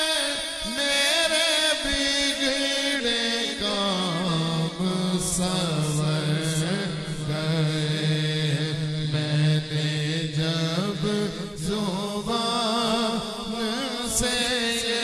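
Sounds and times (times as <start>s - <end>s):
man chanting devotional song: 0.0s - 15.0s.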